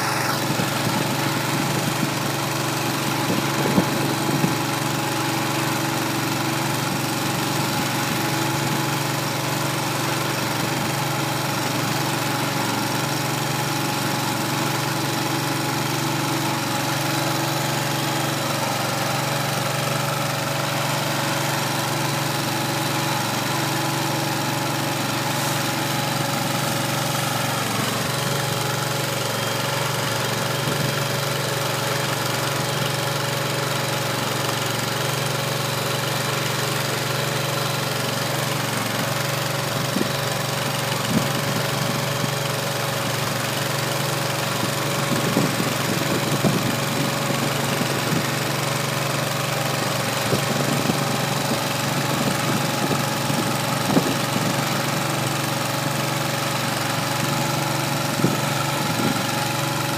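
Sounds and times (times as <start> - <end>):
feed mixer churning hay: 0.0 - 59.9
gas engine running steadily: 0.0 - 59.9.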